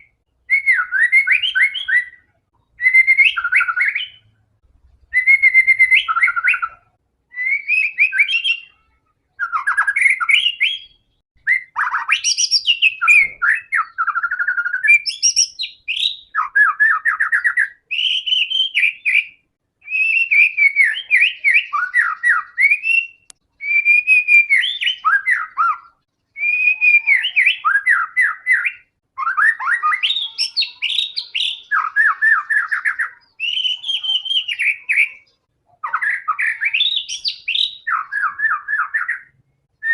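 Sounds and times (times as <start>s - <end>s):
bird singing whistles and trills: 0.0s - 4.3s, 5.1s - 8.8s, 9.4s - 39.9s.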